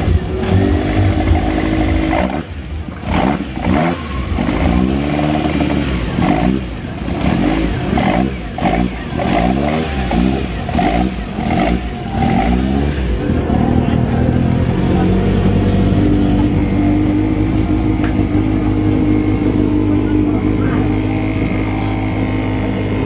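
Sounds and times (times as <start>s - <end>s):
turbo hiss bursts: 0.0s - 13.3s, 13.9s - 23.0s
turbocharged engine revving: 0.0s - 23.0s.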